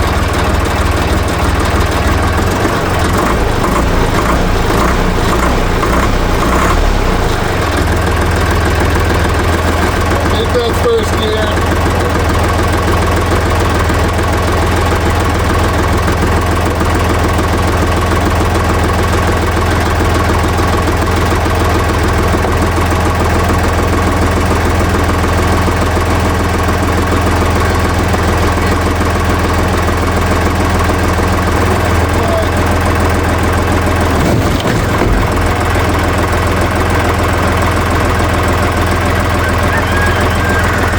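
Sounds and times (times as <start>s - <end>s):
diesel engine running with clattery knock: 0.0s - 40.9s.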